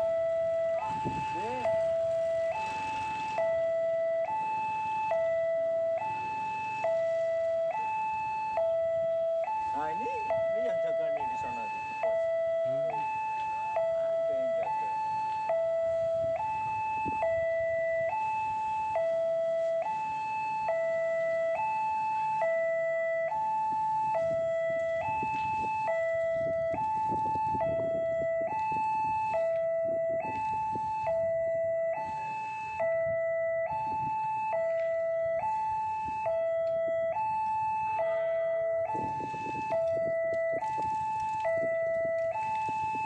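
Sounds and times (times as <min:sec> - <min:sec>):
level crossing two-tone alarm: 0:00.0 - 0:43.0
road traffic rumble: 0:00.0 - 0:43.0.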